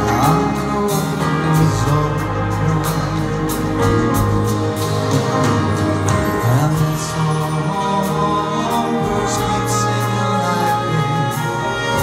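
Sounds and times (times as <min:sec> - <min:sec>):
man singing a slow ballad: 0:00.0 - 0:12.0
piano accompaniment: 0:00.0 - 0:12.0.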